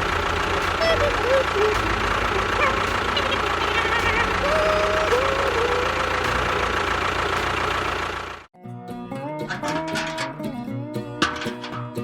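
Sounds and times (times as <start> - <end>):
engine running with pulsing beat: 0.0 - 8.5, 9.4 - 12.0.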